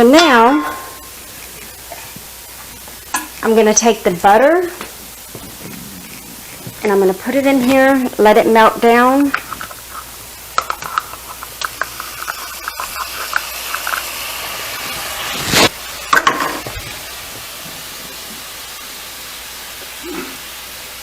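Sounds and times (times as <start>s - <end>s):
butter sizzling in skillet: 0.0s - 21.0s.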